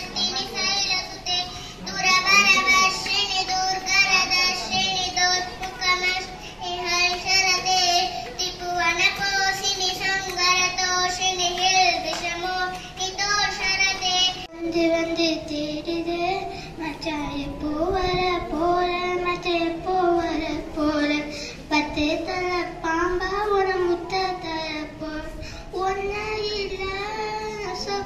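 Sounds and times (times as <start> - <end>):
child singing: 0.0 - 28.0.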